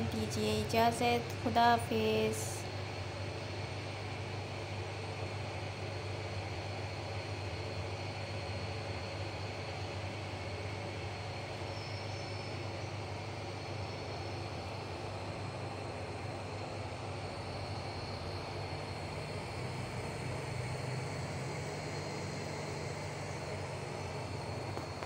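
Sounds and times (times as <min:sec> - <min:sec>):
faint high whine: 0:00.0 - 0:25.0
low machine hum: 0:00.0 - 0:25.0.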